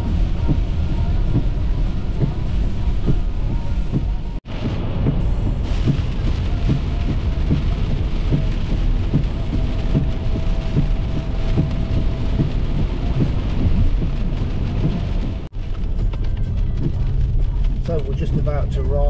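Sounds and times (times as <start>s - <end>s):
heavy rain drumming on car roof: 0.0s - 19.0s
low road noise rumble: 0.0s - 19.0s.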